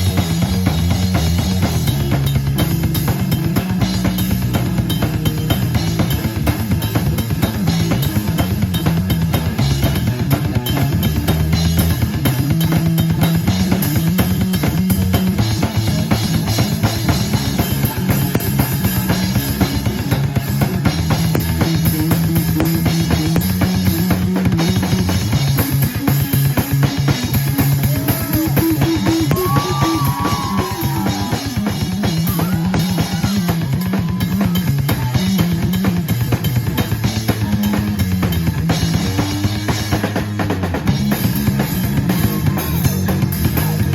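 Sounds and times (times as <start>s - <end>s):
bass line: 0.0s - 43.9s
drum kit: 0.0s - 43.9s
live rock band playing: 0.0s - 43.9s.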